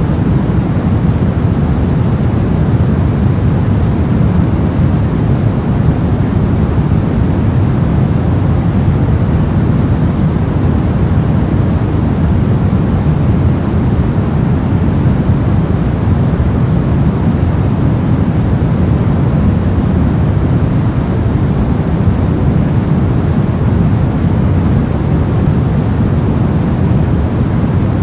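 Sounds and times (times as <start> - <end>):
brown noise rumble: 0.0 - 28.0.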